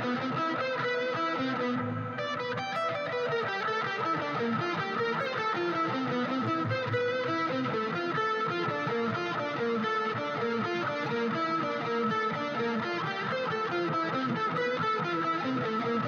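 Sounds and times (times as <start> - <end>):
plucked guitar notes: 0.0 - 16.0.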